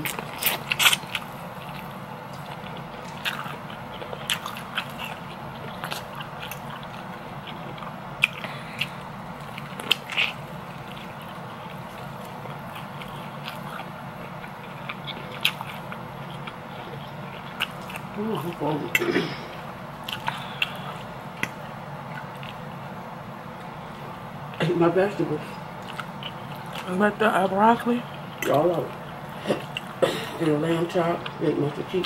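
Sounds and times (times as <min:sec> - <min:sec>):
person chewing food: 0:00.0 - 0:24.6, 0:25.5 - 0:26.9, 0:28.1 - 0:31.4
faint steady hum: 0:00.0 - 0:32.0.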